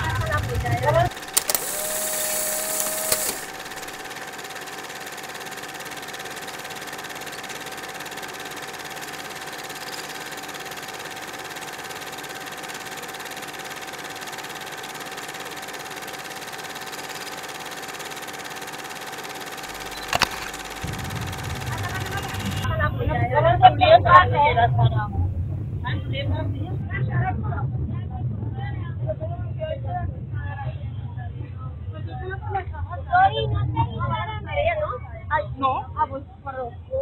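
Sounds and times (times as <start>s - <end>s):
steady hum with mid-pitched tone: 0.0s - 37.0s.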